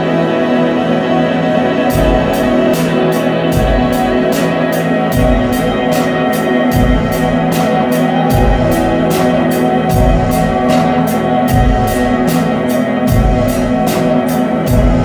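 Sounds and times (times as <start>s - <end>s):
cymbal beat: 1.6s - 15.0s
live rock band playing: 1.7s - 15.0s.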